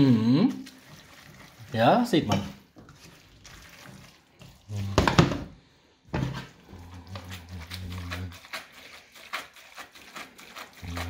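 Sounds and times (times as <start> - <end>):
spatula scraping pasta in pan: 0.5 - 5.3, 6.1 - 11.0.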